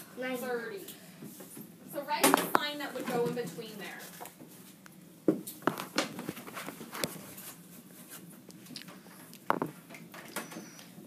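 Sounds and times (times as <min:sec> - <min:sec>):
quiet classroom background: 0:00.0 - 0:11.0.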